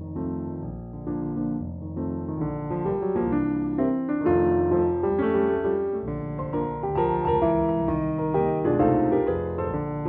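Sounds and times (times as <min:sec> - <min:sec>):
player piano playing fox-trot: 0:00.0 - 0:10.0.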